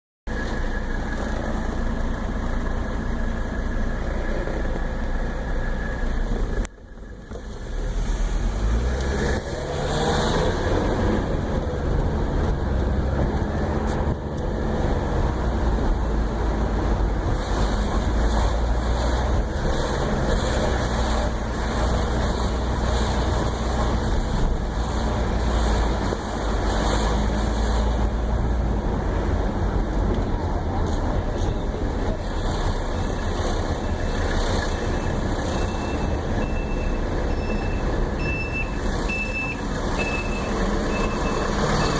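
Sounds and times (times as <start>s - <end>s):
diesel car engine running: 0.3s - 41.9s.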